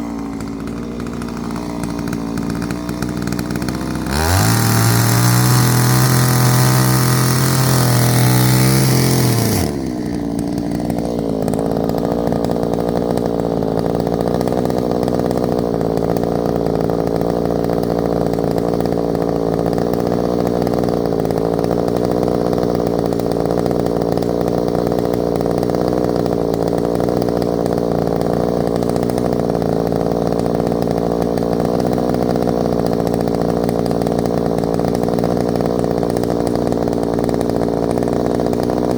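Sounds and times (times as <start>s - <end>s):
chainsaw running and idling: 0.0s - 38.9s.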